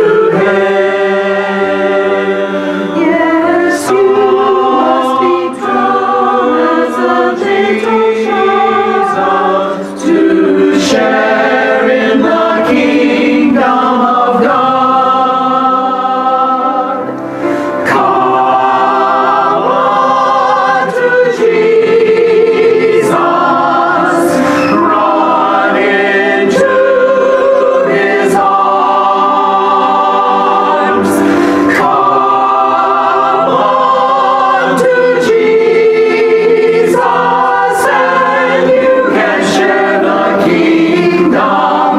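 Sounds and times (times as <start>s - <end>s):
choir singing sacred music: 0.0s - 41.9s.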